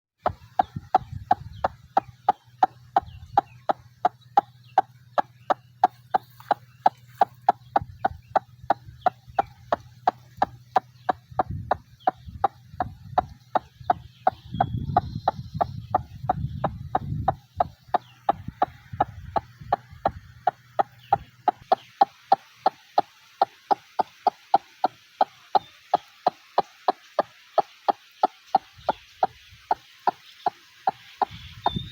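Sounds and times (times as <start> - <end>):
waterhen calling: 0.2 - 31.9.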